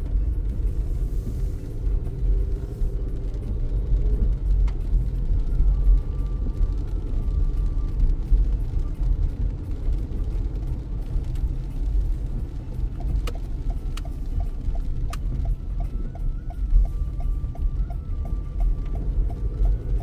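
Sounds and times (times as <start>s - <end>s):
car driving in heavy rain: 0.0s - 20.0s
turn signal ticking: 0.0s - 20.0s.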